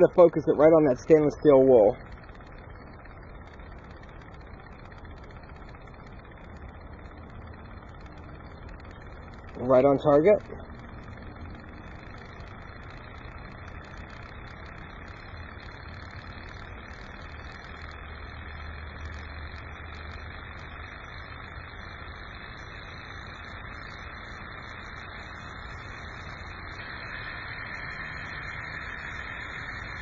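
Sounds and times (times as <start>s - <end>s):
faint light ticking: 0.0s - 30.0s
stirling engine low hum: 0.0s - 30.0s.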